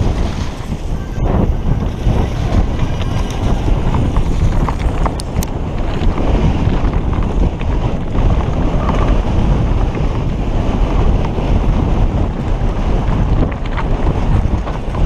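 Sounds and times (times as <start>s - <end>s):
bike tyres rattling over stones: 0.0s - 15.0s
wind rumble on microphone: 0.0s - 15.0s.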